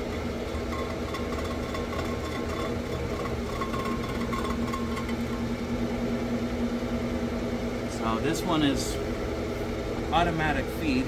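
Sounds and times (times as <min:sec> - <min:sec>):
surfacing machine humming: 0:00.0 - 0:11.0.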